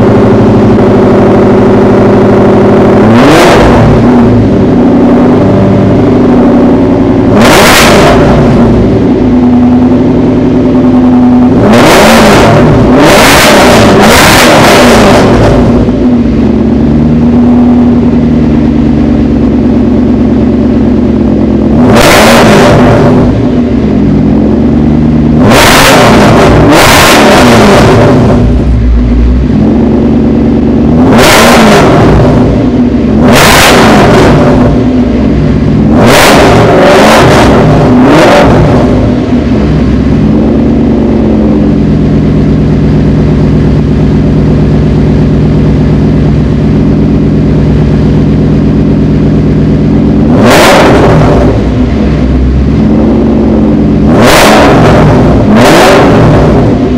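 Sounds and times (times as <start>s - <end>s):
car engine idling: 0.0s - 56.9s
engine revving: 0.0s - 56.9s.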